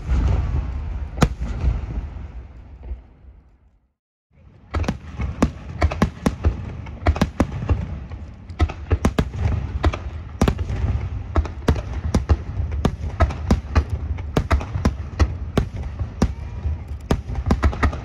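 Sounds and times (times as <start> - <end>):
fireworks bangs and crackles: 0.0 - 3.4, 4.4 - 18.0.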